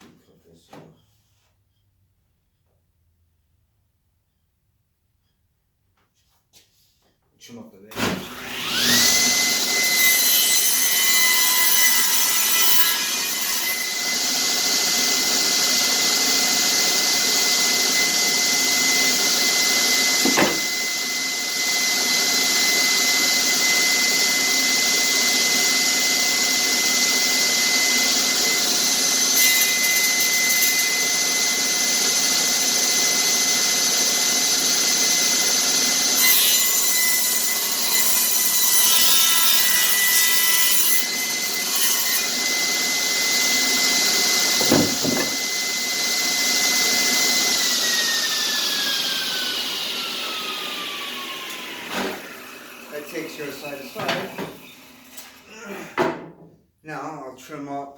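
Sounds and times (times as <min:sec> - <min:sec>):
saw blade cutting wood: 0:07.9 - 0:55.4
table saw whining: 0:07.9 - 0:55.6.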